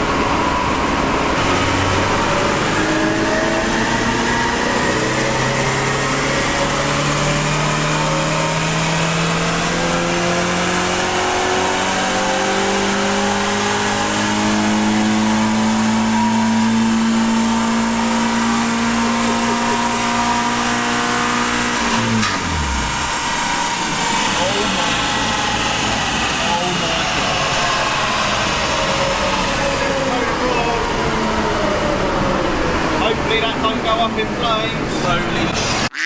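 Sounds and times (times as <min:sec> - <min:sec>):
car engine revving at full throttle: 0:00.0 - 0:35.6.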